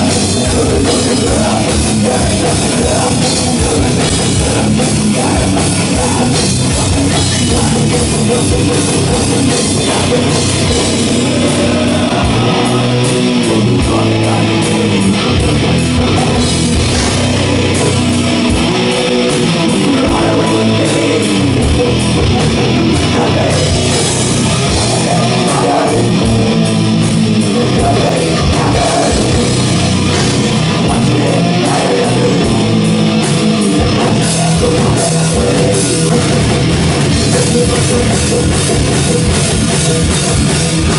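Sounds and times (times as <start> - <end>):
distorted electric guitars: 0.0 - 40.9
drum kit: 0.0 - 40.9.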